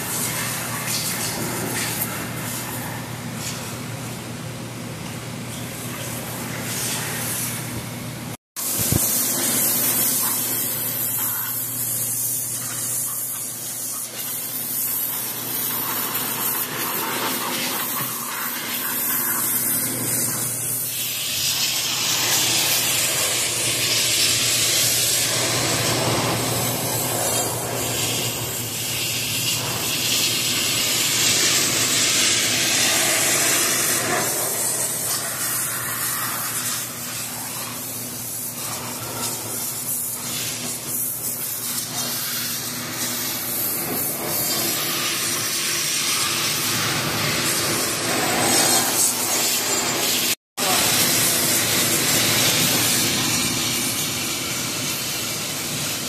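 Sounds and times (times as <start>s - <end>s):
loud spraying hiss: 8.6s - 56.0s.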